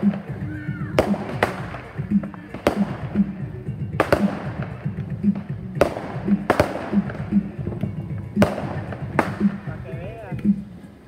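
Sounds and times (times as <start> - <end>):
fireworks bangs: 0.0 - 10.2
music with bass beat: 0.0 - 11.0.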